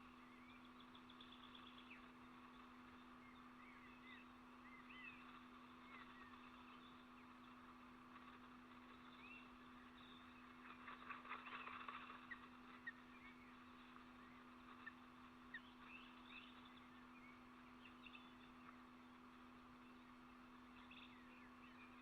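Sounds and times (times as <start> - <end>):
faint distant birds chirping: 0.0 - 22.0
steady low hum: 0.0 - 22.0.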